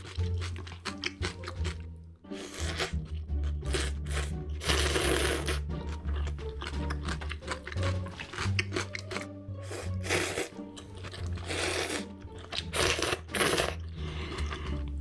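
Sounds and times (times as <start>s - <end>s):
background music with bass line: 0.0s - 15.0s
crunchy bites and chewing: 0.0s - 15.0s.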